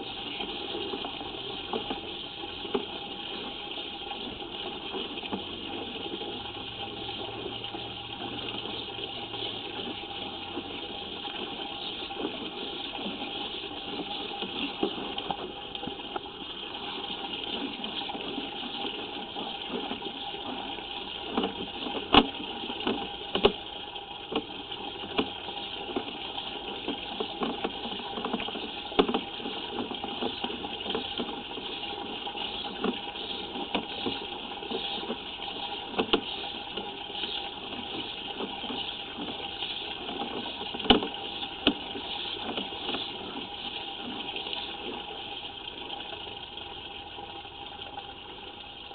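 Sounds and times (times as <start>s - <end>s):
water running through pipe: 0.0s - 48.9s.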